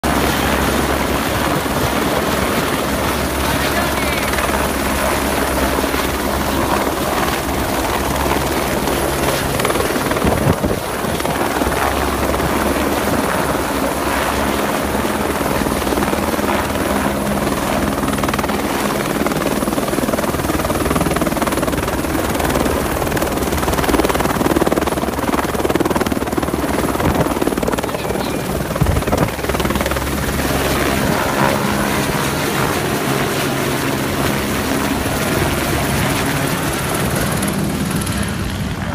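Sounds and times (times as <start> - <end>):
helicopter rotor and turbine: 0.0 - 38.9.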